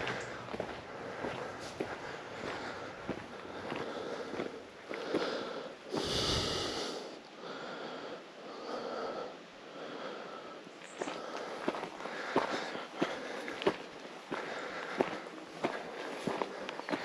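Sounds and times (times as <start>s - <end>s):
person breathing hard: 0.0s - 17.0s.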